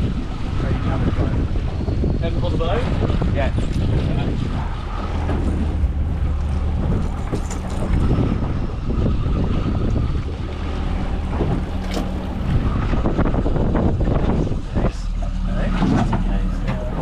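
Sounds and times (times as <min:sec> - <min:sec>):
boat motor running: 0:00.0 - 0:17.0
wind buffeting microphone: 0:00.0 - 0:17.0.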